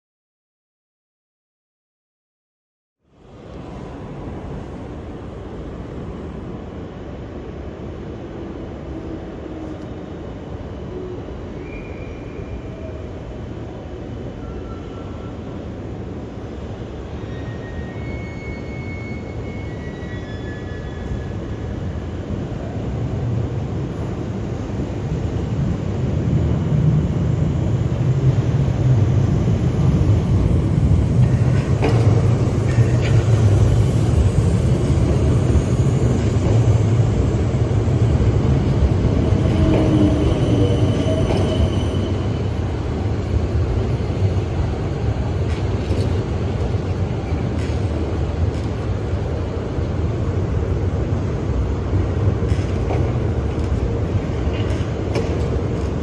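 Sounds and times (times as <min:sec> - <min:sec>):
faint train whine: 0:03.0 - 0:56.0
train rumbling on track: 0:03.1 - 0:56.0.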